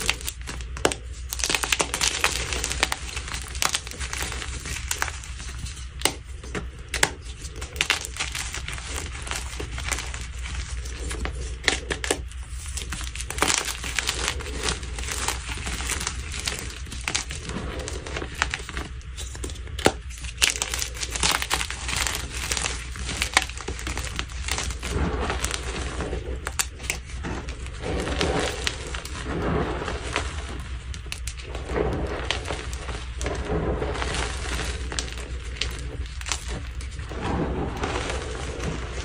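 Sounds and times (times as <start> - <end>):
chalk cracking and crumbling: 0.0 - 39.0.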